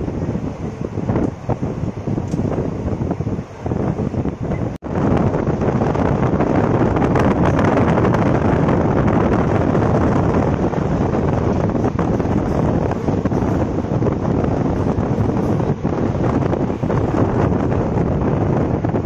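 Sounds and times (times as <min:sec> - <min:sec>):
train coaches running on track: 0:00.0 - 0:19.0
wind rushing over microphone: 0:00.0 - 0:19.0.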